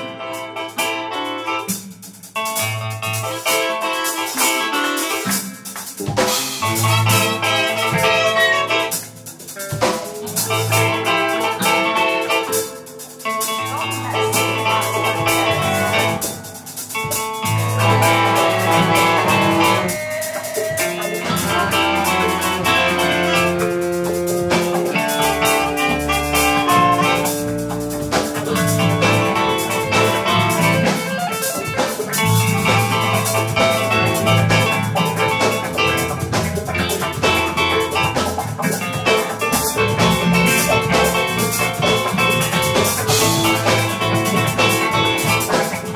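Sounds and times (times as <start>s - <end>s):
drum kit beat: 0.0s - 45.9s
bass line: 6.0s - 45.9s.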